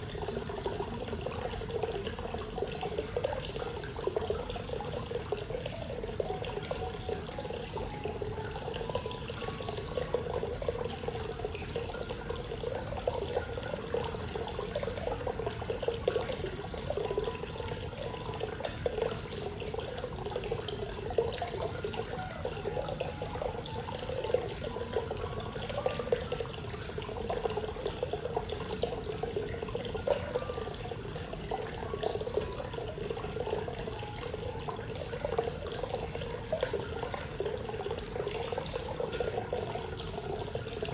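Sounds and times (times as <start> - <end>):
water pouring into a bath: 0.0 - 40.9.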